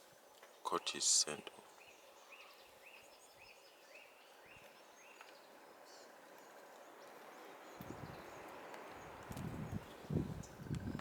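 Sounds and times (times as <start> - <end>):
faint background hiss: 0.0 - 10.9.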